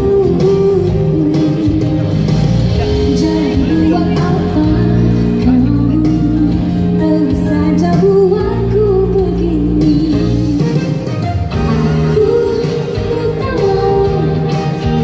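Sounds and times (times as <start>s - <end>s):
amplified backing music: 0.0s - 15.0s
woman singing pop song: 0.0s - 15.0s.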